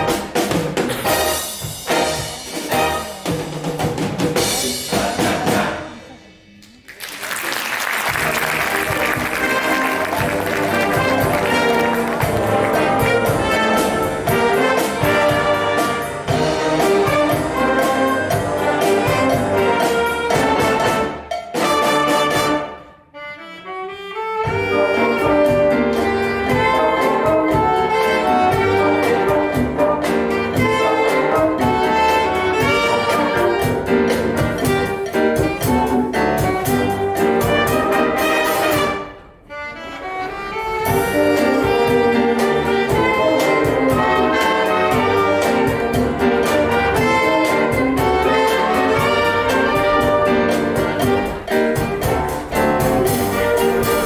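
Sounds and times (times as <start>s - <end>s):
wind band playing latin music: 0.0s - 6.5s, 7.2s - 54.0s.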